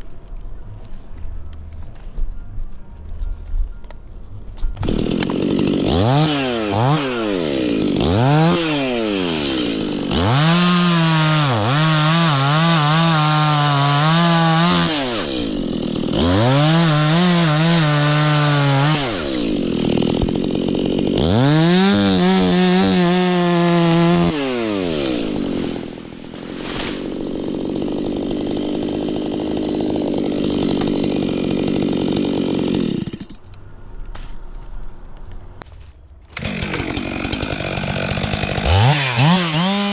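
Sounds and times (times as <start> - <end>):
chainsaw cutting wood: 4.6 - 33.5, 36.3 - 39.9.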